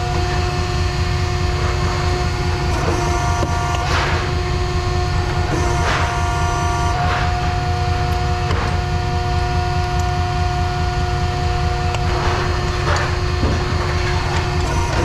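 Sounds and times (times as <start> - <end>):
machine whine: 0.0 - 15.0
pulsing engine rumble: 0.0 - 15.0.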